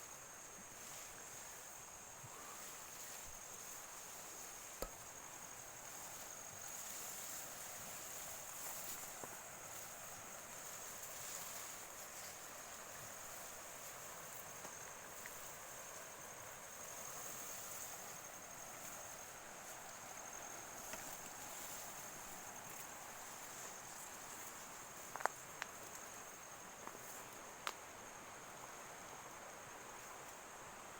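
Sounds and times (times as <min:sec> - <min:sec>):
wind hiss: 0:00.0 - 0:30.9.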